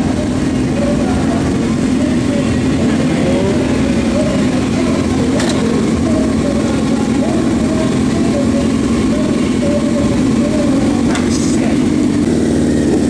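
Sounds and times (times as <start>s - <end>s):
crowd chatter: 0.0s - 13.0s
motorcycle engines running: 0.0s - 13.0s.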